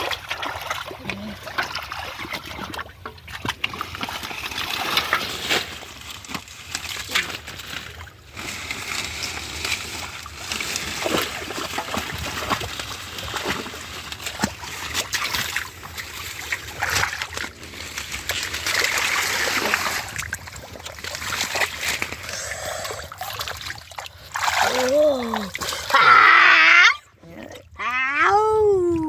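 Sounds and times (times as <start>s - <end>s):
muddy water splashing and sloshing: 0.0s - 29.0s.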